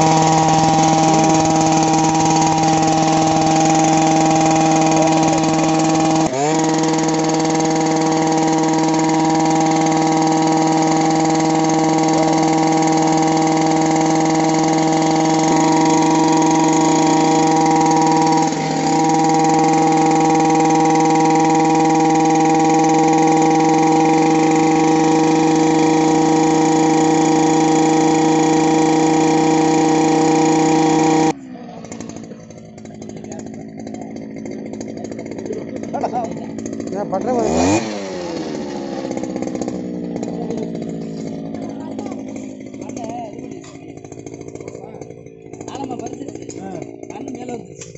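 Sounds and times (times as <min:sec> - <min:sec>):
earth auger engine running: 0:00.0 - 0:47.9.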